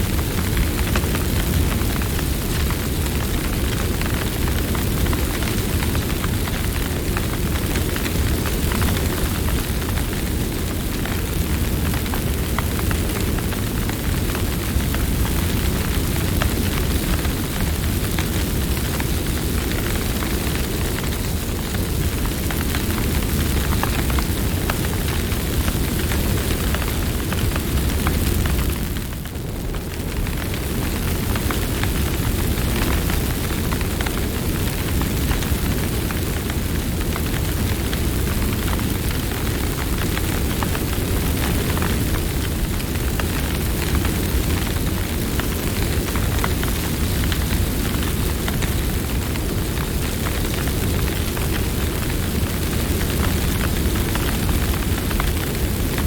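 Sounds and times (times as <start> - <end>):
burning wood crackling and popping: 0.0 - 56.0
flames rumbling: 0.0 - 56.0.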